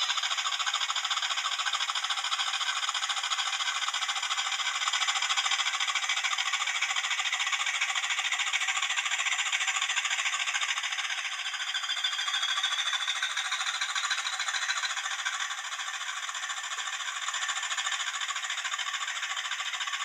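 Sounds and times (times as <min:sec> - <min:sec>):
tinny diesel engine sound from speaker: 0:00.0 - 0:20.0.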